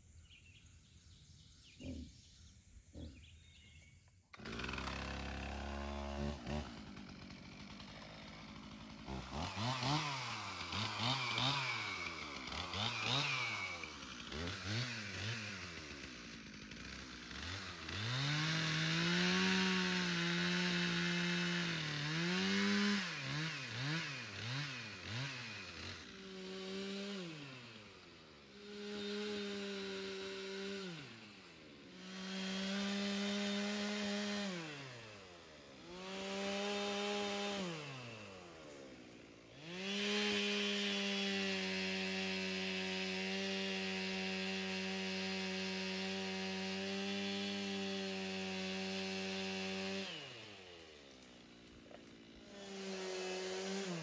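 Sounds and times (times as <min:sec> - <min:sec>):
chainsaw engine revving: 0:04.3 - 0:54.0.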